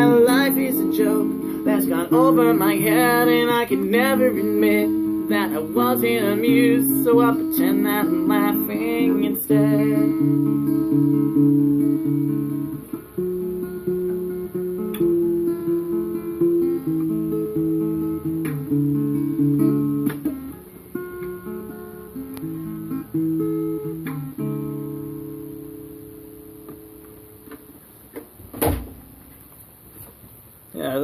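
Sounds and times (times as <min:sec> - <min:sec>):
acoustic guitar playing: 0:00.0 - 0:28.4.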